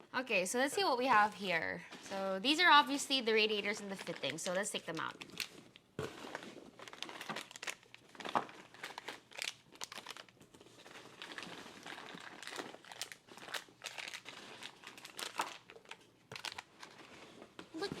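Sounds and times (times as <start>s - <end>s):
packing peanuts rustling: 2.1s - 17.6s.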